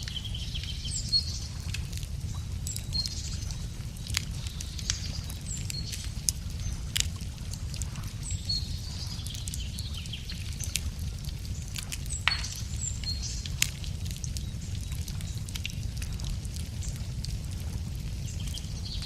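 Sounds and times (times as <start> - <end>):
birds chirping: 0.0 - 16.1
wood fire crackling: 0.0 - 19.0.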